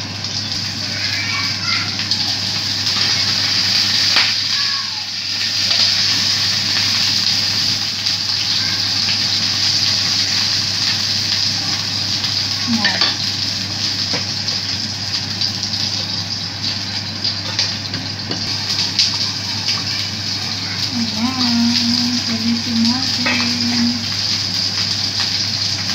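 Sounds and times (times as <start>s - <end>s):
fish frying in hot oil: 0.0s - 25.9s.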